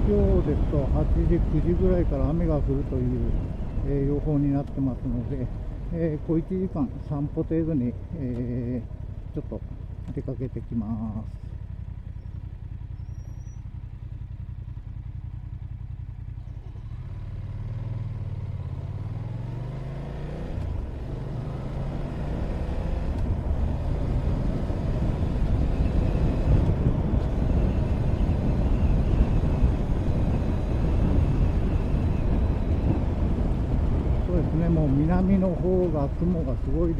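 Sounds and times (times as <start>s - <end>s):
motorcycle engine: 0.0s - 36.9s
wind and road noise: 0.0s - 36.9s.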